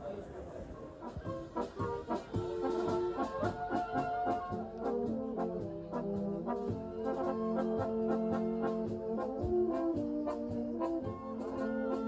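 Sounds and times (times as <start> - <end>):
brass band playing: 0.8 - 12.0.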